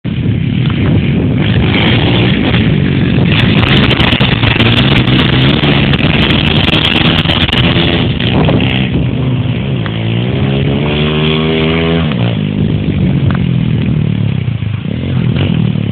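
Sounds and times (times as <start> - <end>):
pit bike engine revving: 0.1 - 15.9.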